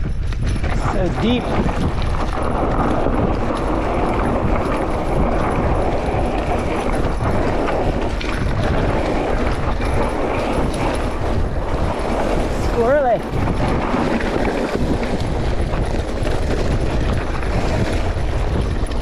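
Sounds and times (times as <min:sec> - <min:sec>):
bike knocks and rattles: 0:00.0 - 0:19.0
tyre and wind rush: 0:00.0 - 0:19.0.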